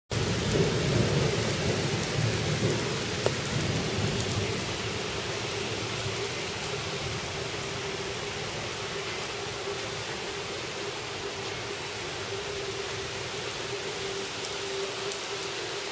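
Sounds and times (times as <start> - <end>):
low thunder rumble: 0.1 - 13.8
rain falling steadily: 0.1 - 15.9.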